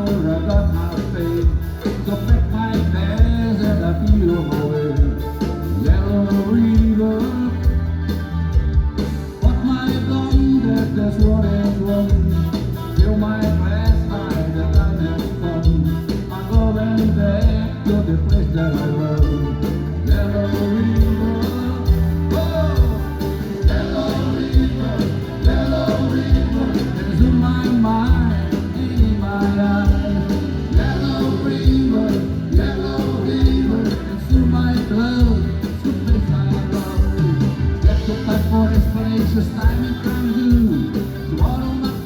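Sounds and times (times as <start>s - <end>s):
drum kit beat: 0.0s - 42.0s
repeating bass line: 0.0s - 42.0s
sliding melodic lead line: 0.0s - 42.0s.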